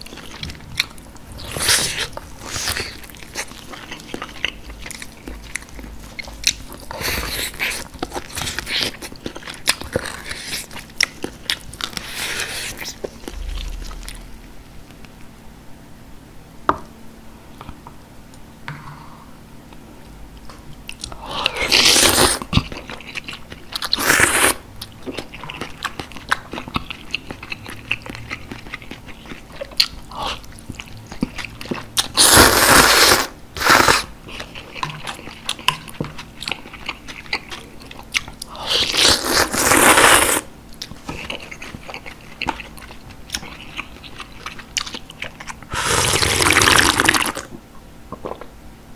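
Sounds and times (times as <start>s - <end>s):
chewing and biting meat: 0.0s - 14.3s, 20.9s - 32.8s, 33.6s - 47.4s.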